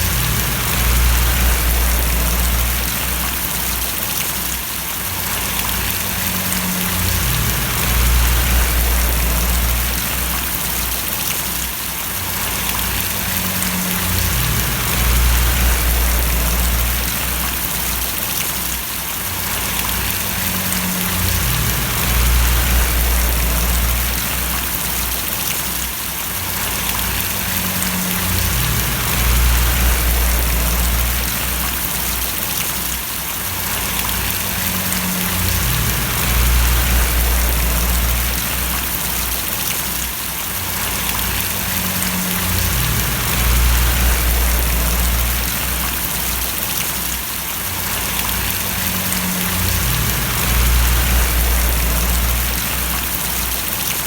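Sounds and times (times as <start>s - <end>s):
low hum: 0.0s - 3.8s, 5.4s - 11.3s, 12.4s - 18.0s, 19.8s - 25.4s, 26.7s - 32.4s, 33.9s - 39.7s, 40.8s - 46.8s, 48.0s - 53.8s
rain falling and splashing: 0.0s - 54.0s.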